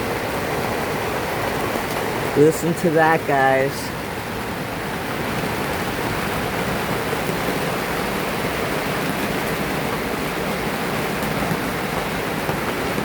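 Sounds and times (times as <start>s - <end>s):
heavy rain on boat deck: 0.0s - 13.0s.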